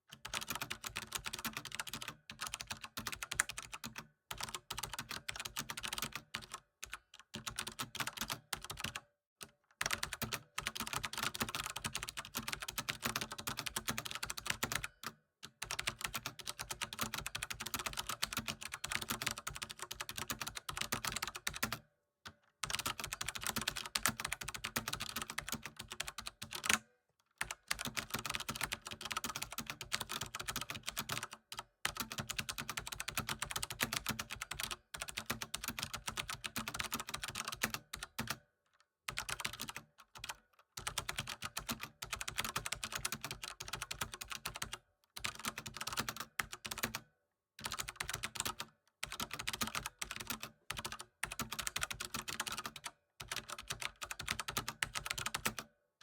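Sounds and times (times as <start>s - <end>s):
fast typing on keyboard: 0.1s - 9.0s, 9.8s - 21.8s, 22.6s - 26.8s, 27.4s - 38.4s, 39.1s - 55.7s.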